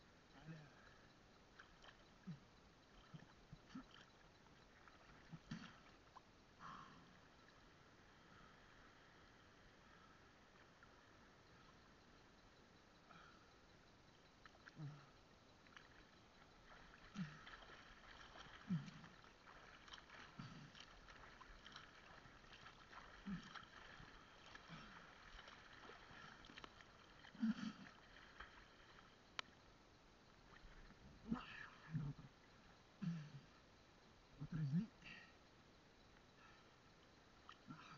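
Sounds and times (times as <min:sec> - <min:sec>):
water and bubbles crackling: 0:00.0 - 0:32.8
muffled water sloshing: 0:00.0 - 0:37.9.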